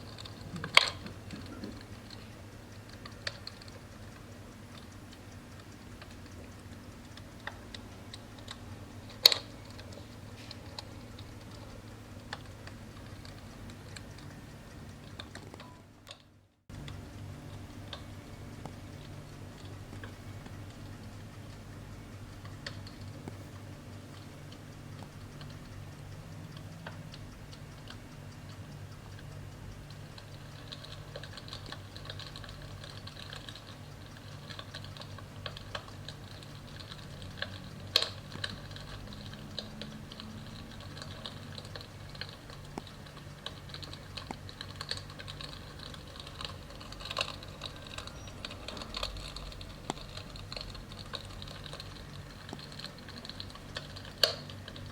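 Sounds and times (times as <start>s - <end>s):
low steady hum: 0.0s - 54.9s
simulated fire crackles: 0.0s - 54.9s.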